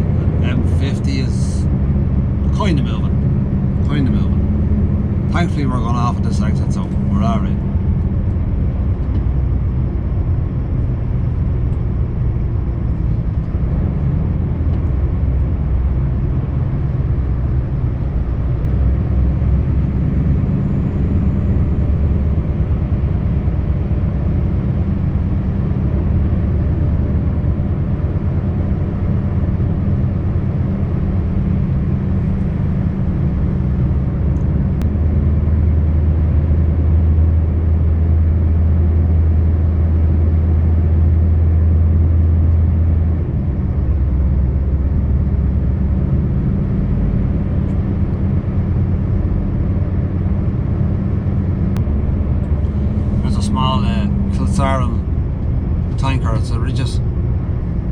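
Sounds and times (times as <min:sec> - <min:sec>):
road noise inside cab: 0:00.0 - 0:57.9
truck engine droning: 0:00.0 - 0:57.9.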